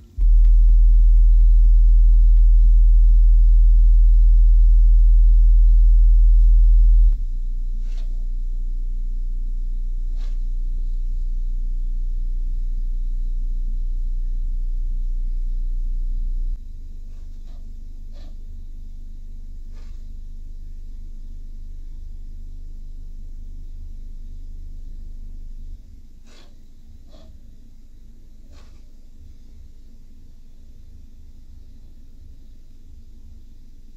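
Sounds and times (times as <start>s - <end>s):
low sine test tones: 0.0s - 33.9s.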